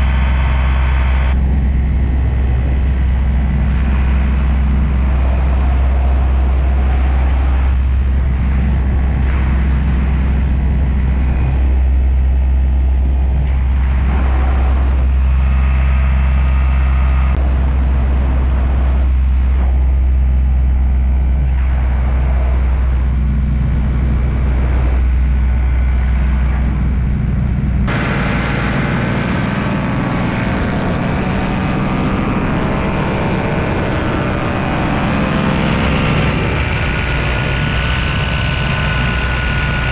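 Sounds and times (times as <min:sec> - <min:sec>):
paramotor engine running: 0:00.0 - 0:39.9.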